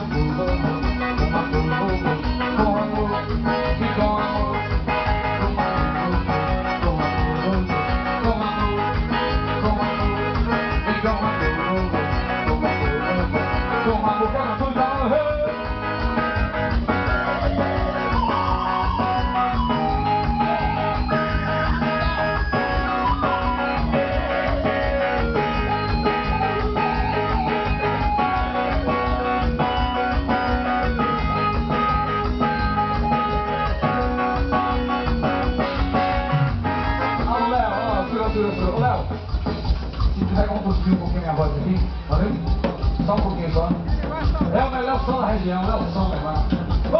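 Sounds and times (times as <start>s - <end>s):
live band with guitar leads: 0.0s - 46.9s.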